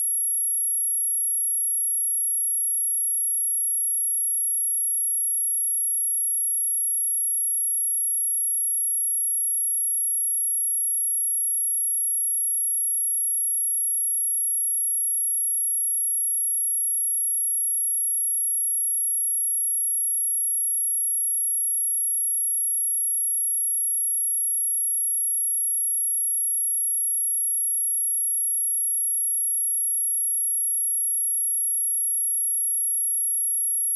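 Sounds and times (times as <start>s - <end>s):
high-pitched sine test tone: 0.0s - 33.9s.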